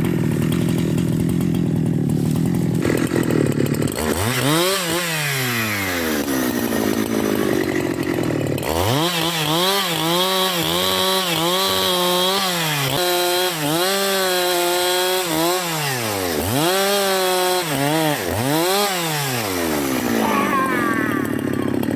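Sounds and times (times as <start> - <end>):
chainsaw revving: 0.0 - 21.9.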